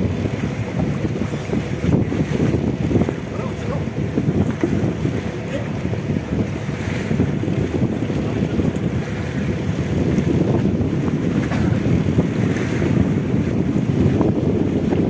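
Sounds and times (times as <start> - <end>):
sea noise: 0.0 - 15.0
wind buffeting microphone: 0.0 - 15.0.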